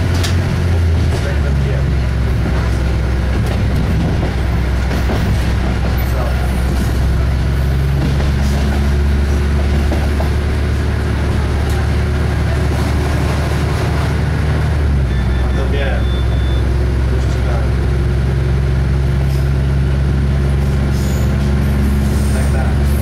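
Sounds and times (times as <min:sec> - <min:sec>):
diesel engine drone: 0:00.0 - 0:23.0
train wheels rumbling on track: 0:00.0 - 0:23.0.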